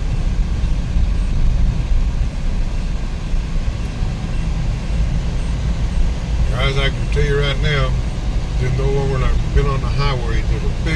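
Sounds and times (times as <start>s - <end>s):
engine and road rumble in car: 0.0s - 10.9s.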